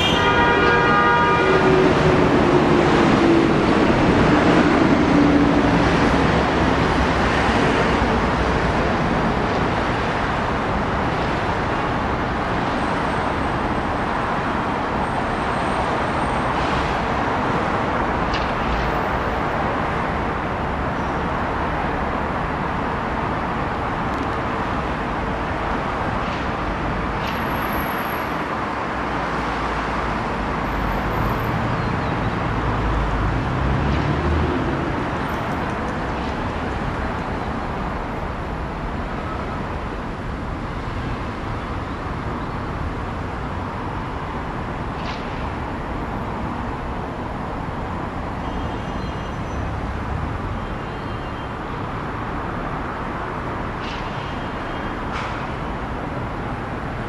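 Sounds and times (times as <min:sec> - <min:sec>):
city traffic noise: 0:00.0 - 0:57.0.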